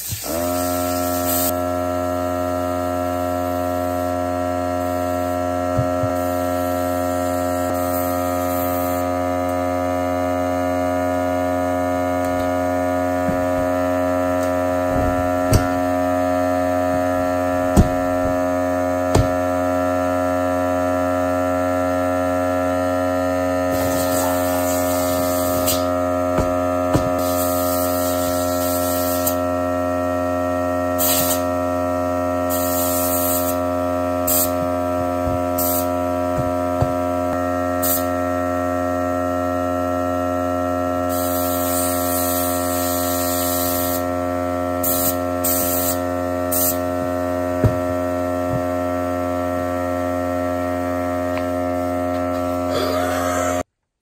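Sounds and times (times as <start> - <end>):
electrical hum: 0.0 - 53.7.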